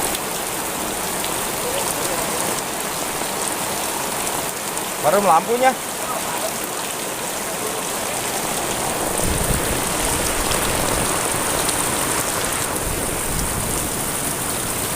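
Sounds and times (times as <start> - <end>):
heavy rain: 0.0 - 14.9.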